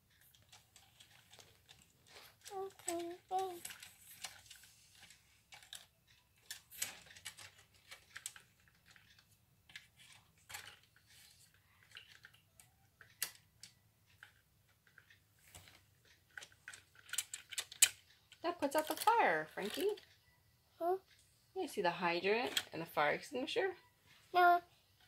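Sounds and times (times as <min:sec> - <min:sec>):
plastic toy parts clicking: 0:00.1 - 0:20.1, 0:22.4 - 0:22.7.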